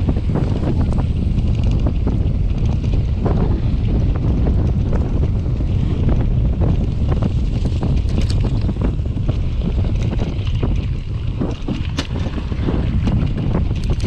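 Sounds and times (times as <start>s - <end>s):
bike rattles and knocks: 0.0s - 14.0s
wind buffeting microphone: 0.0s - 14.0s.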